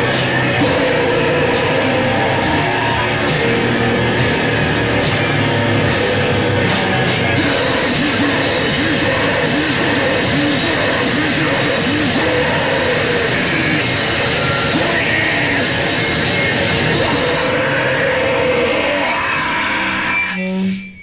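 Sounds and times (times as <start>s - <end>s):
bass guitar: 0.0s - 21.0s
distorted electric guitars: 0.0s - 21.0s
drums: 0.0s - 21.0s.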